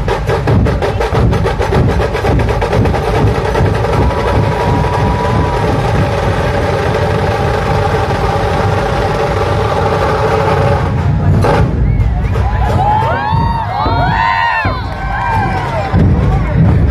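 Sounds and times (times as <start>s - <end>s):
barrel drums playing fast roll: 0.0s - 16.9s.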